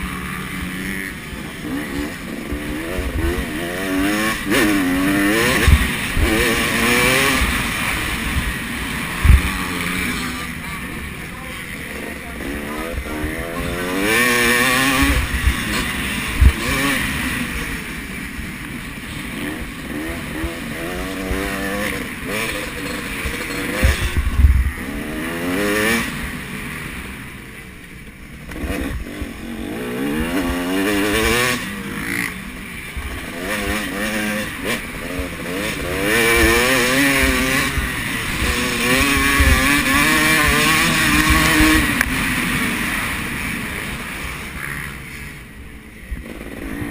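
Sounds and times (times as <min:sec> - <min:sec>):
motocross bikes revving: 0:00.0 - 0:46.9.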